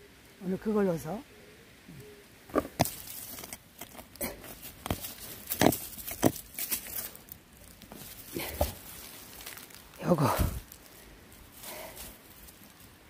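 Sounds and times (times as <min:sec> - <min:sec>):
hands scraping soil: 0:02.5 - 0:13.0.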